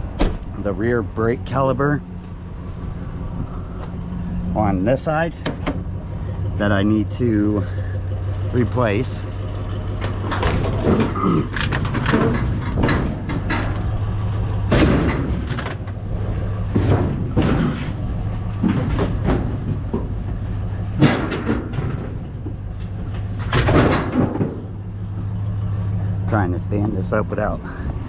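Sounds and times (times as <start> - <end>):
scrap metal clanking and scraping: 0.0 - 28.0
truck engine idling: 0.0 - 28.0.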